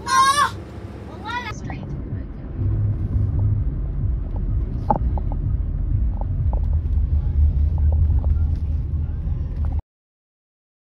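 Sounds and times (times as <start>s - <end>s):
car cabin rumble: 0.0s - 9.8s.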